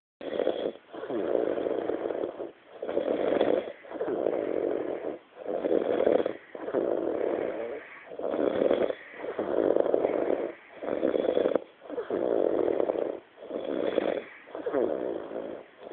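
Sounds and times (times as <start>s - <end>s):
person snoring heavily: 0.2s - 15.9s.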